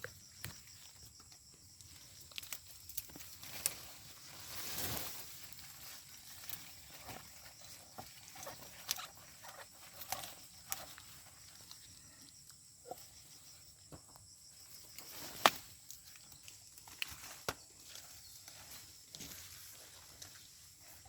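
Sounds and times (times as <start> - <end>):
vines clicking and rustling: 0.0 - 12.6, 14.6 - 21.0.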